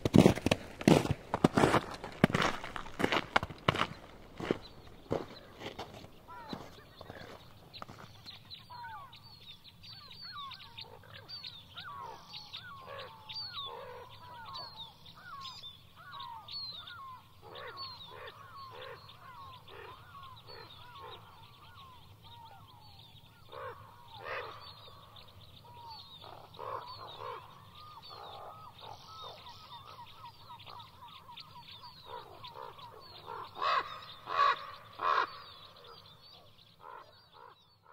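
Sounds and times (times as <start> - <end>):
birds chirping: 0.0 - 37.9
harsh bird calls: 0.0 - 37.9.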